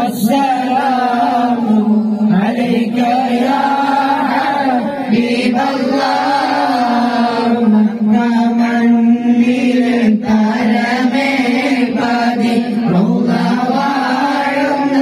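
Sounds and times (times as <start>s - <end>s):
man chanting into microphone: 0.0s - 15.0s.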